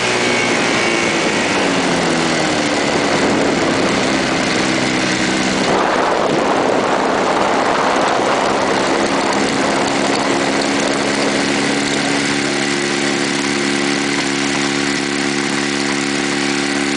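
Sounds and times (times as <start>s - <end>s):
rush of noise: 0.0s - 16.9s
ultralight engine and propeller: 0.0s - 16.9s.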